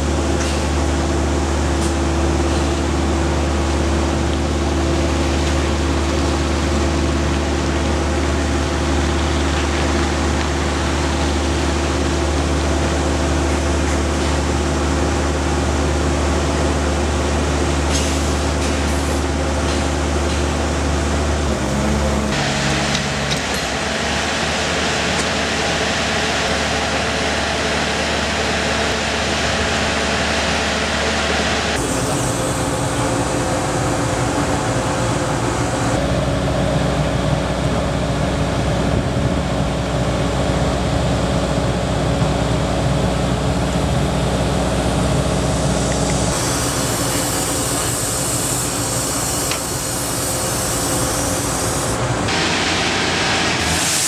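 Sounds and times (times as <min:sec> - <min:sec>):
machinery hum and drone: 0:00.0 - 0:54.0.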